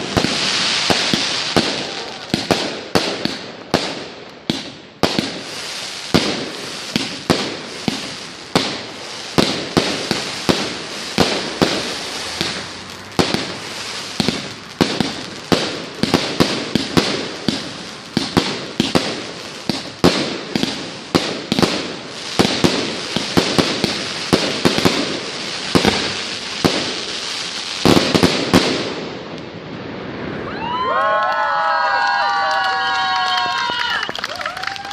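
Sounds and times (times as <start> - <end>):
fireworks bursting with bangs: 0.0 - 30.5
fireworks crackling: 0.0 - 34.9.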